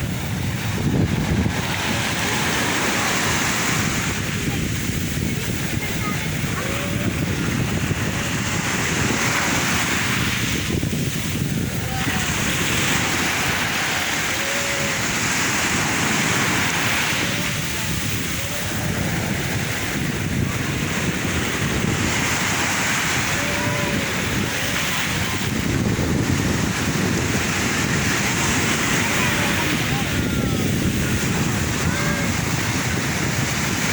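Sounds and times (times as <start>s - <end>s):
sea waves breaking on shore: 0.0s - 33.9s
wind buffeting microphone: 0.0s - 33.9s.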